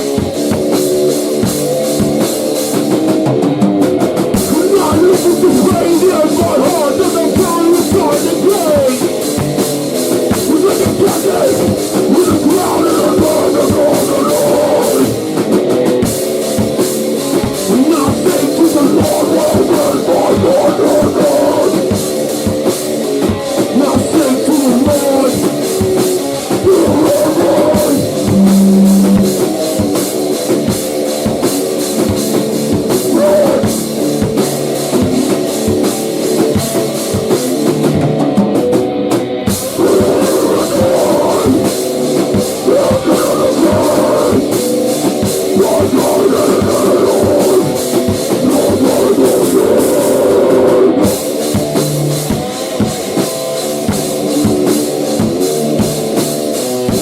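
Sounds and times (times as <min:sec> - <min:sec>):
driving drum kit: 0:00.0 - 0:57.0
electric guitar: 0:00.0 - 0:57.0.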